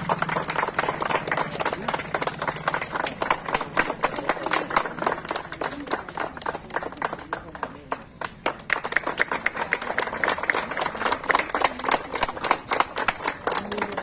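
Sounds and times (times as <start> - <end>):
people clapping: 0.0 - 14.0.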